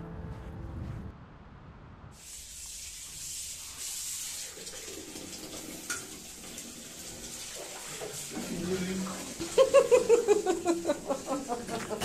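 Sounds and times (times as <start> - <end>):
water running from bath tap: 2.2 - 12.0.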